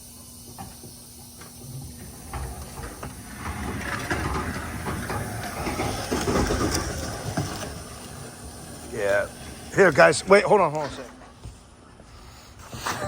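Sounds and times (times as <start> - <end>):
pallet jack wheels rumbling: 1.2 - 13.0.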